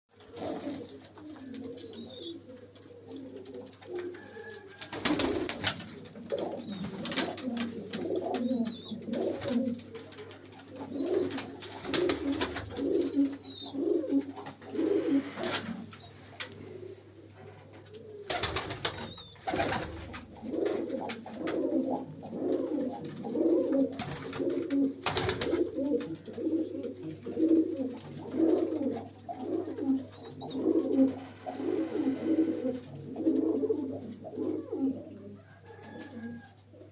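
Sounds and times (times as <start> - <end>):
pigeons cooing: 0.2 - 36.9.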